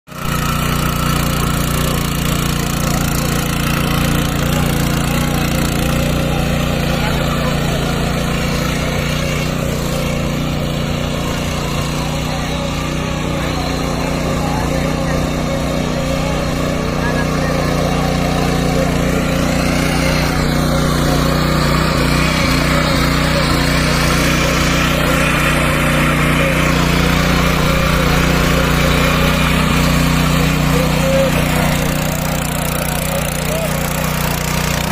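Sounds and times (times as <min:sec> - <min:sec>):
small gasoline engine running: 0:00.1 - 0:34.9.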